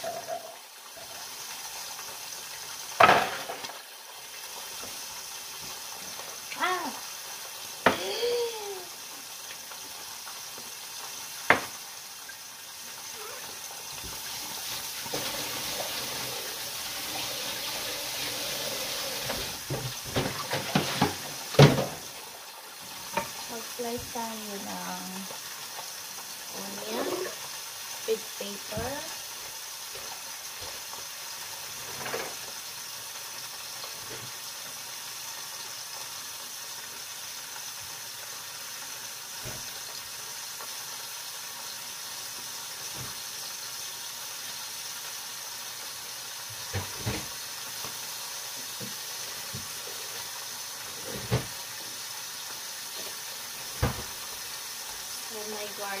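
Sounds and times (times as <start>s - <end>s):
pot simmering hiss: 0.0s - 56.0s.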